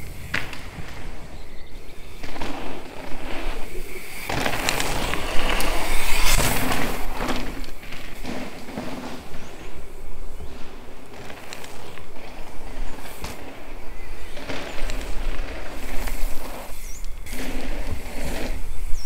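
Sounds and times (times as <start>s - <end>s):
bike rattling and knocking: 0.0s - 18.9s
bike tyres crunching on gravel: 0.0s - 19.0s.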